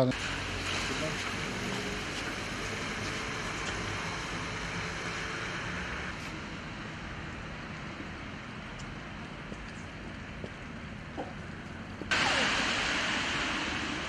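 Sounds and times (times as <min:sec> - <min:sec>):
outdoor ambience hiss and rumble: 0:00.0 - 0:14.0.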